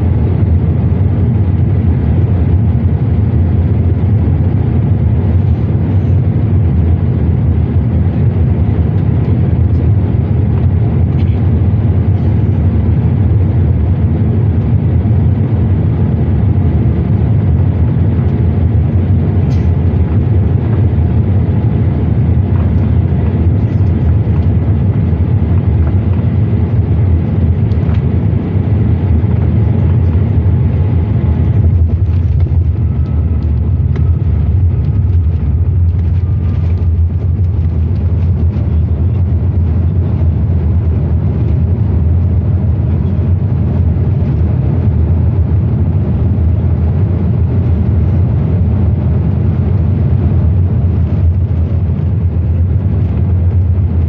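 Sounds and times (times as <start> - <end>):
jet engines and rushing air roar: 0.0 - 54.0
rattling and runway rumble: 0.0 - 54.0.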